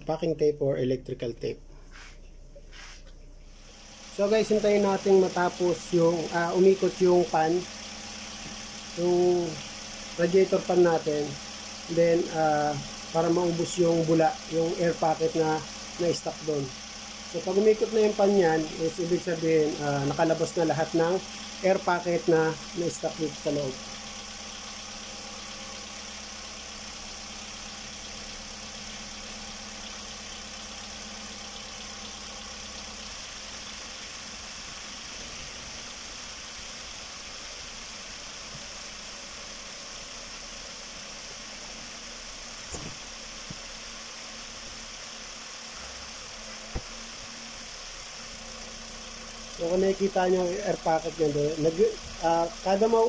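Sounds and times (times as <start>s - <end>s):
car engine idling: 3.2s - 53.0s.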